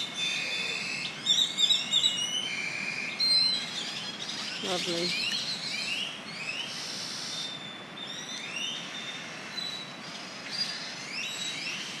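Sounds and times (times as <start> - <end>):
birds whistling in chorus: 0.0 - 12.0.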